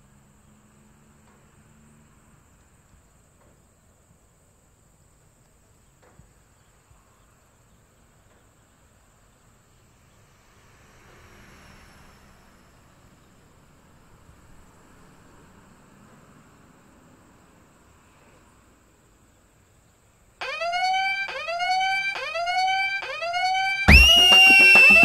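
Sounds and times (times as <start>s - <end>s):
faint high-pitched hiss: 0.0s - 20.4s.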